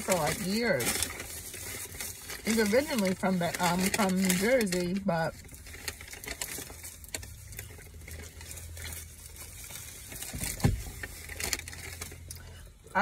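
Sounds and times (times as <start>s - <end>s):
paper bag rustling: 0.0s - 12.6s
food wrapper crinkling: 0.0s - 13.0s
low steady hum: 0.0s - 13.0s.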